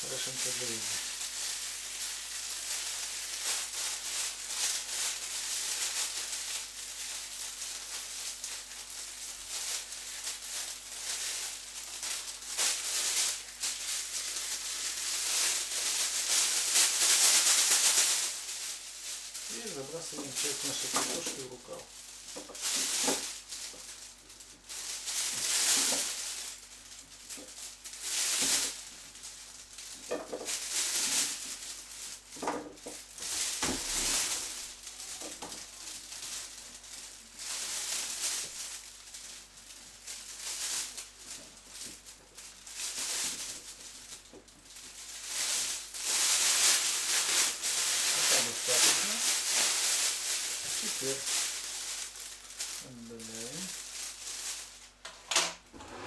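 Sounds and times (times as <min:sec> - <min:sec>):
plastic bag crinkling: 0:00.0 - 0:55.7.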